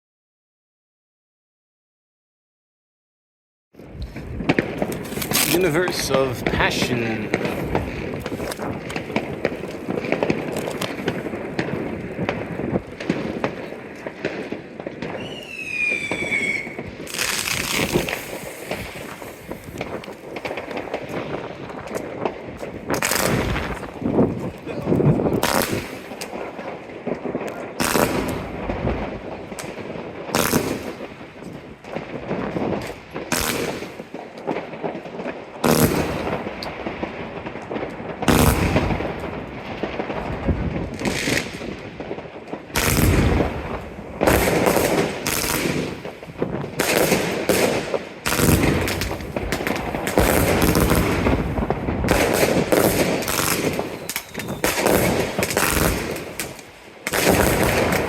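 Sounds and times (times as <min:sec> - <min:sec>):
fireworks launching and bursting: 0:03.8 - 0:58.0.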